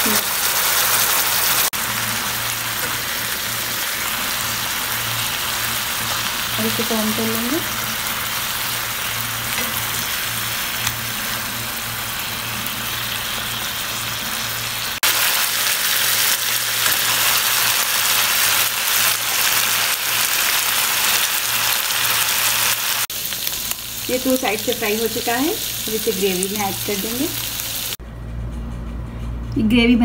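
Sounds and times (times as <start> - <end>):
chicken sizzling in oil: 0.0 - 28.0.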